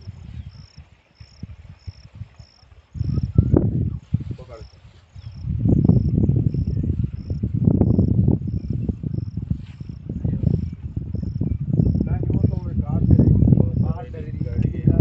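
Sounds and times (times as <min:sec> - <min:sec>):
cricket chirping: 0:00.0 - 0:15.0
low uneven rumble: 0:00.0 - 0:15.0.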